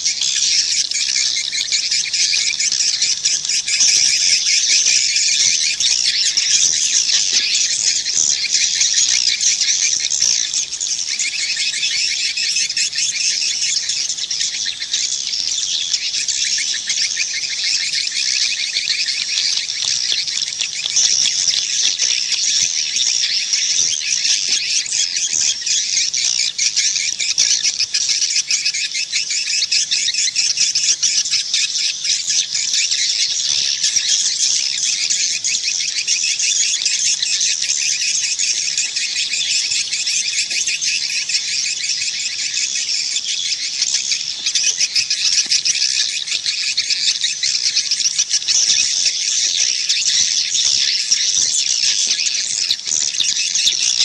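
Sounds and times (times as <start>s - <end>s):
swiftlets chirping and twittering: 0.0s - 54.0s.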